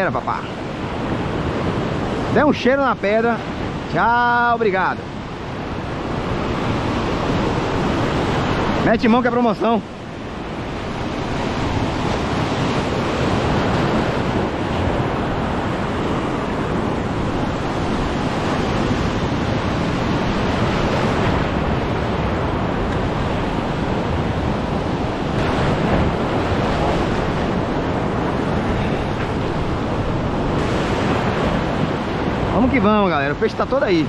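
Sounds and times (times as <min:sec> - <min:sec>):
surf breaking on rocks: 0:00.0 - 0:34.0
wind buffeting microphone: 0:04.7 - 0:09.0, 0:09.8 - 0:34.0.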